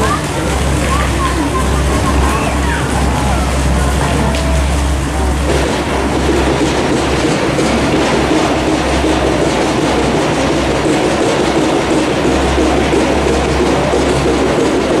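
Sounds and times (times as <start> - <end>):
construction rattling clatter: 0.0 - 15.0.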